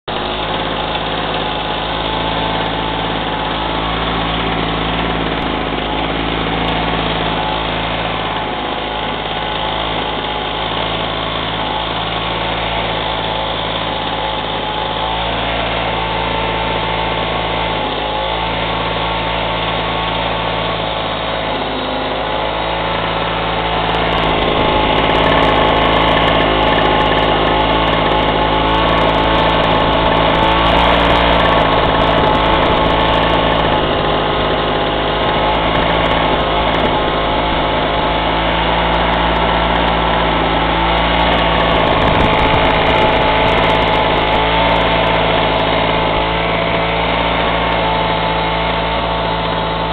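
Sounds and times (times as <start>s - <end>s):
two-stroke engine running: 0.0s - 49.9s.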